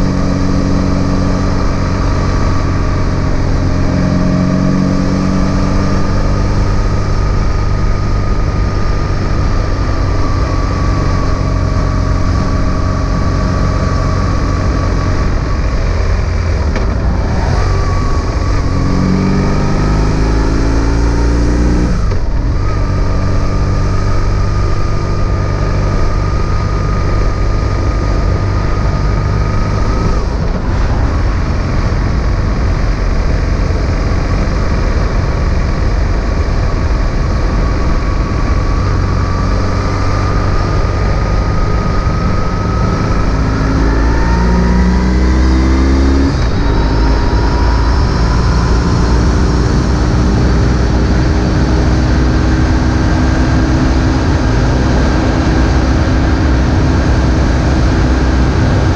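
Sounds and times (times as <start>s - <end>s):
motorcycle engine running: 0.0s - 58.9s
road noise: 0.0s - 58.9s
wind: 0.0s - 58.9s.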